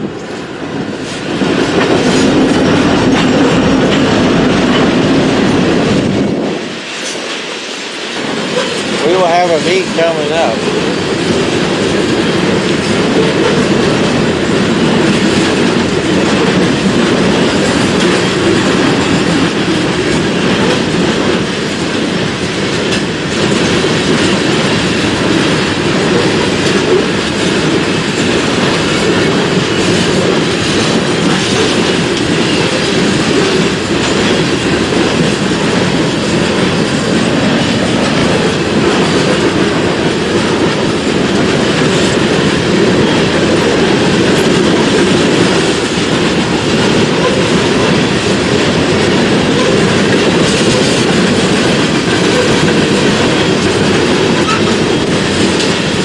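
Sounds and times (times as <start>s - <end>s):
freight train cars rolling past: 0.0s - 56.0s
wheels clacking over rail joints: 0.0s - 56.0s.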